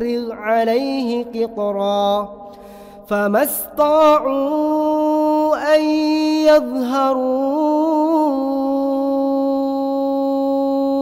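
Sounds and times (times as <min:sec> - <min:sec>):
man chanting melodically: 0:00.0 - 0:02.4, 0:03.0 - 0:11.0.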